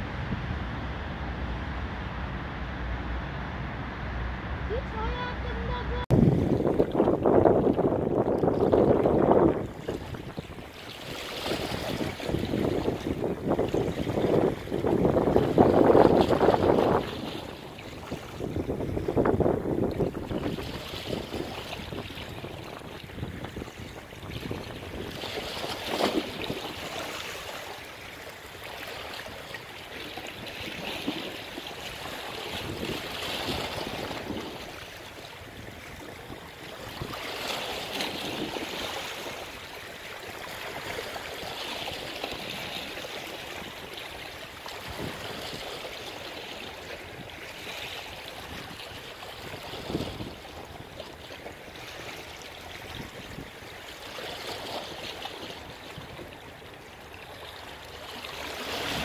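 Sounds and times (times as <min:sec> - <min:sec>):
small waves splashing on shore: 0:04.6 - 0:59.0.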